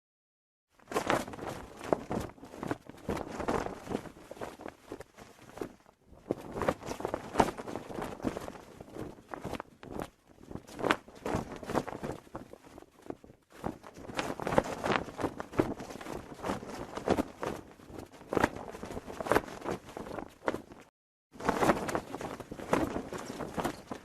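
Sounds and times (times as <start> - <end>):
cloth flag flapping in wind: 0.7 - 24.0.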